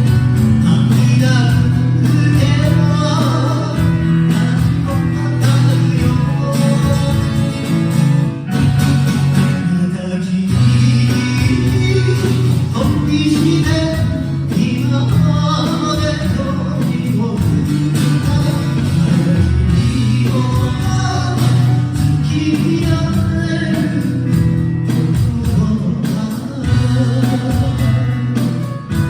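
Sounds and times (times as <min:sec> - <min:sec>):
guitar accompaniment: 0:00.0 - 0:29.0
person singing: 0:00.5 - 0:07.9, 0:08.7 - 0:29.0.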